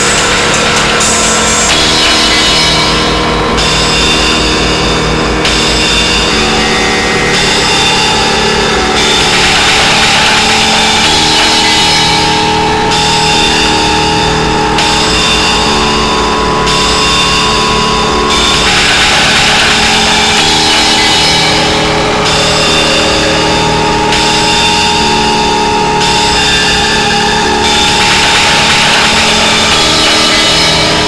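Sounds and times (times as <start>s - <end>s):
distorted grinding noise music: 0.0s - 31.0s
fast low pulse: 0.0s - 31.0s.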